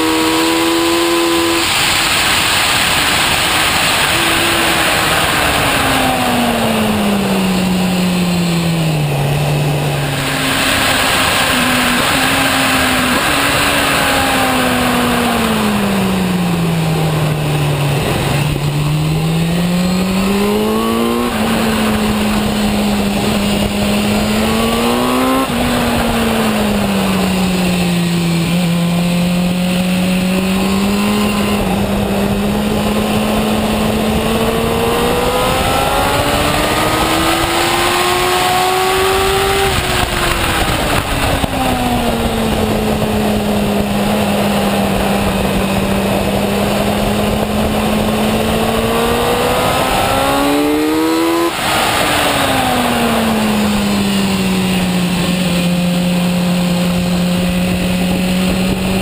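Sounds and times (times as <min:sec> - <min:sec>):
motorcycle engine accelerating: 0:00.0 - 0:59.0
wind rush: 0:00.0 - 0:59.0.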